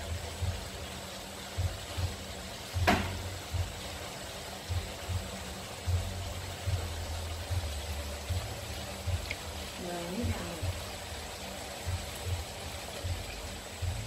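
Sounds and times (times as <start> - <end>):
electric hum: 0.0 - 14.0
food sizzling in a wok: 0.0 - 14.0.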